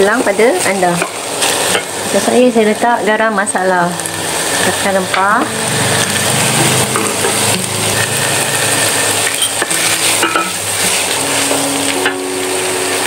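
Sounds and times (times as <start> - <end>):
meat and vegetables sizzling in oil: 0.0 - 13.0.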